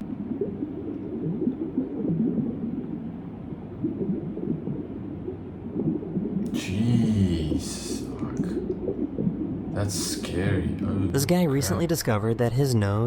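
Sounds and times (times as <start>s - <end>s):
muffled underwater rumble: 0.0s - 11.9s.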